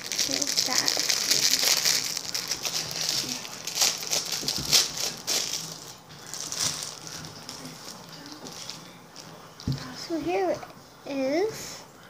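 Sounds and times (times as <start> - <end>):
plastic wrapper crinkling: 0.0 - 9.8.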